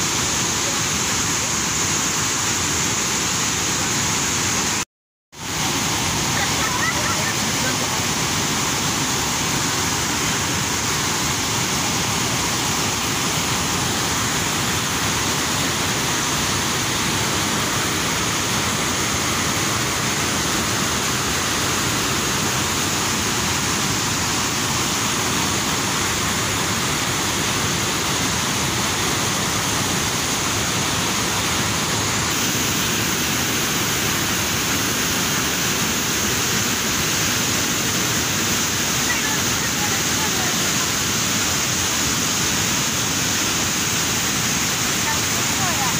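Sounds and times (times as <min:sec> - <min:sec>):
river rapids rushing: 0:05.4 - 0:45.9.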